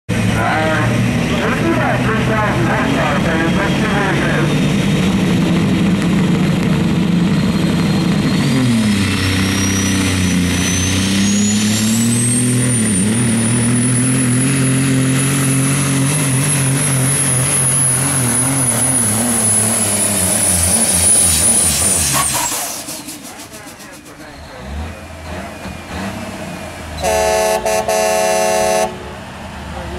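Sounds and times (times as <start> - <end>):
turbocharger whine: 0.1 - 24.6
diesel truck engine under load: 0.1 - 29.9.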